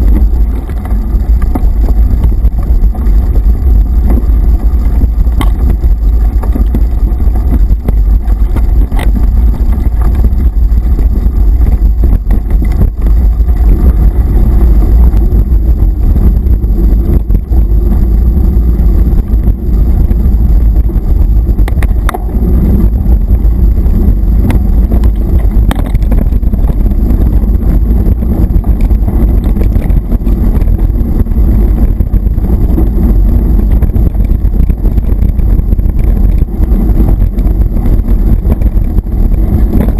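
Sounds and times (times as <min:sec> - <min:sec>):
wind and road rumble on microphone: 0:00.0 - 0:39.9.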